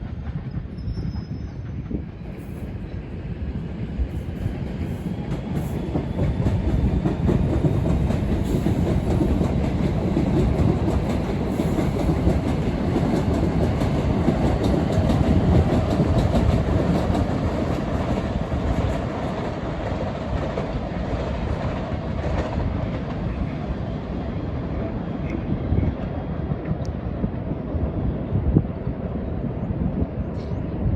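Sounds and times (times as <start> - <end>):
passenger train rumbling past: 0.0 - 30.9.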